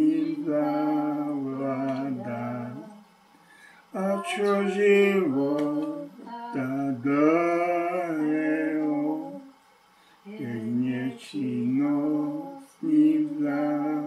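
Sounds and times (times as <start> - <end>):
person singing a hymn unaccompanied: 0.0 - 3.2, 3.9 - 9.6, 10.2 - 14.0.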